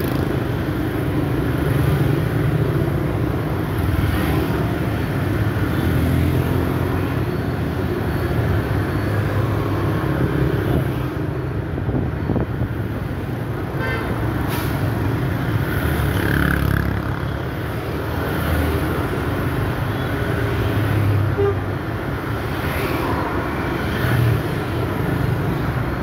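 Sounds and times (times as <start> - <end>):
motorbike and car engines: 0.0 - 26.0.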